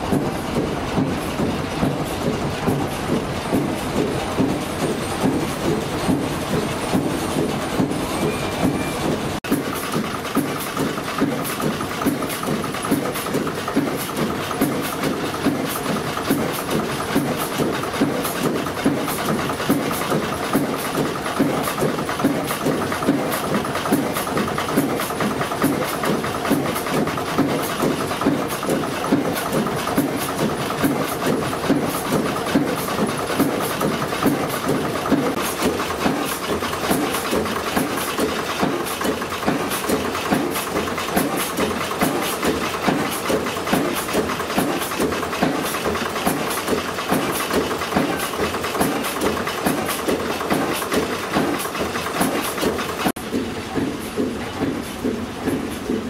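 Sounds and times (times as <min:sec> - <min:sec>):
stationary engine thumping: 0:00.0 - 0:56.0.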